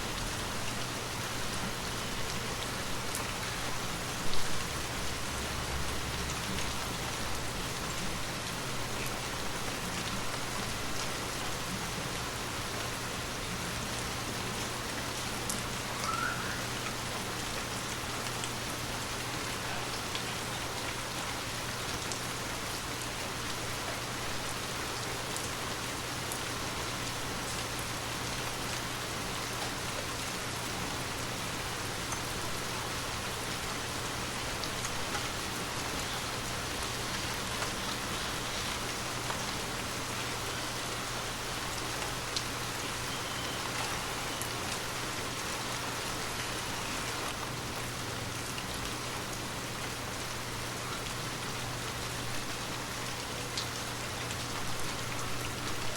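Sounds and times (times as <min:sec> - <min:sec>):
gentle rain falling: 0:00.0 - 0:55.9.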